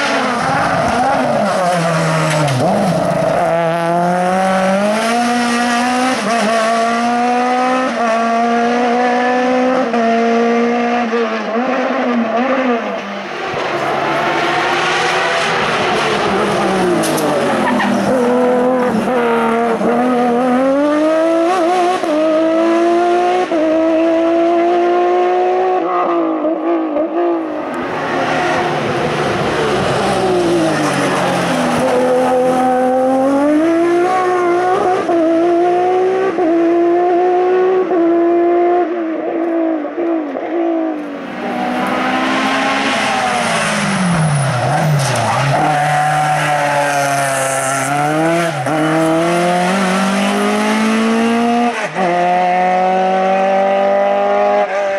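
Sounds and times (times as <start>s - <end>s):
racing cars accelerating: 0.0s - 54.9s.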